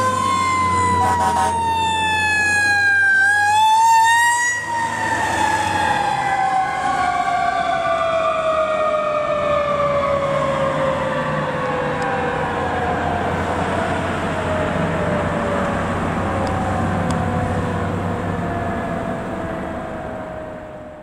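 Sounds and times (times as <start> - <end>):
fire truck sirens: 0.0 - 21.0.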